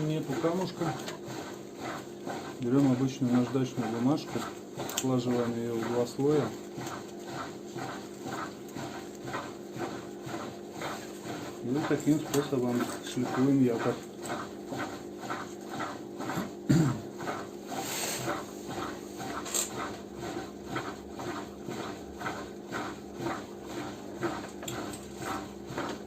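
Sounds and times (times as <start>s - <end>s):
stone rasping on motor commutator: 0.0s - 26.0s.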